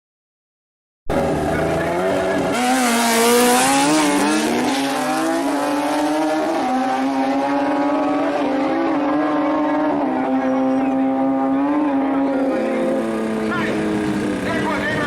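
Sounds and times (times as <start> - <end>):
engine running at high revs: 1.1 - 15.0.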